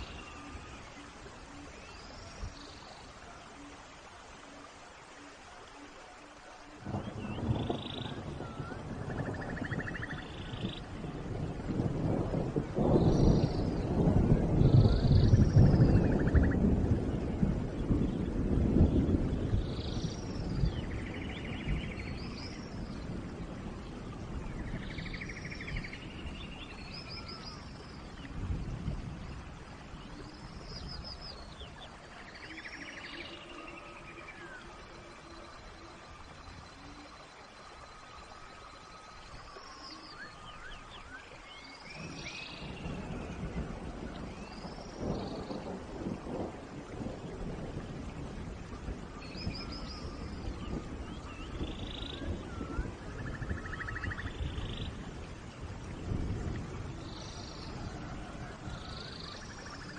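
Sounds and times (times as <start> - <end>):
rain: 0.0 - 59.9.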